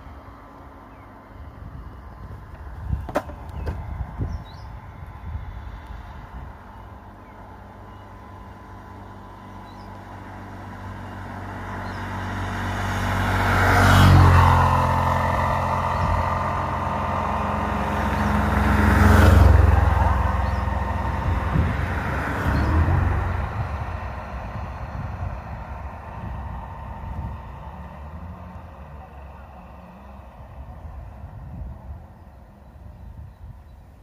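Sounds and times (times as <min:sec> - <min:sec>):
vehicles passing close by: 0:00.0 - 0:34.0.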